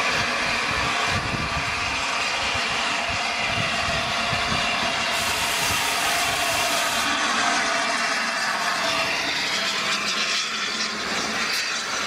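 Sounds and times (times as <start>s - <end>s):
steam hissing: 0.0s - 12.0s
steam locomotive running: 0.0s - 12.0s.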